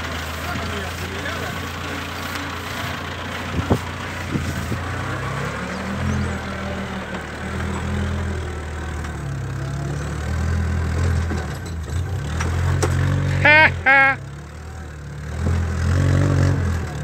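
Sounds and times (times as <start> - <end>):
truck engine pulling uphill: 0.0 - 17.0.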